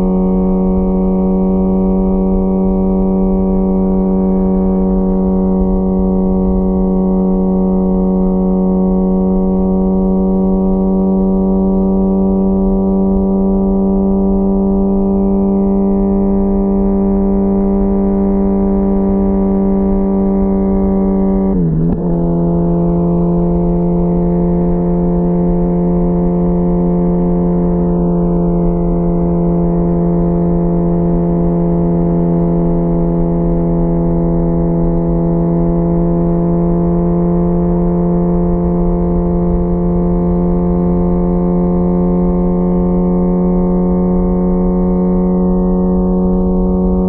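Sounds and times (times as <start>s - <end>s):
motorcycle engine droning: 0.0s - 47.0s.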